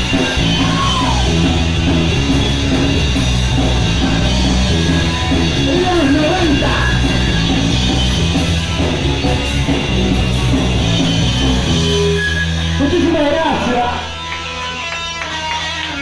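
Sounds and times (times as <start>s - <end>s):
punk rock band playing live: 0.0s - 16.0s.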